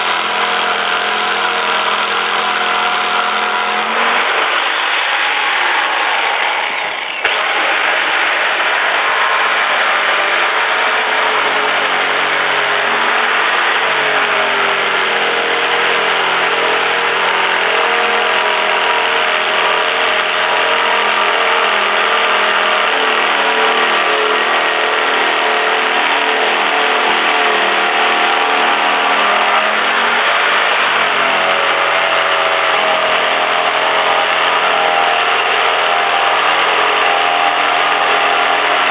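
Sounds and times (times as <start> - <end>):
motor running: 0.0 - 38.9.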